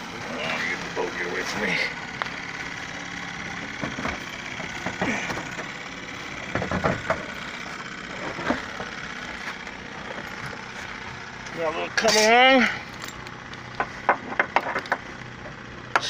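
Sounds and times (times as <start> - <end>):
gear knocking and rustling: 0.0 - 16.0
van engine idling: 0.0 - 16.0.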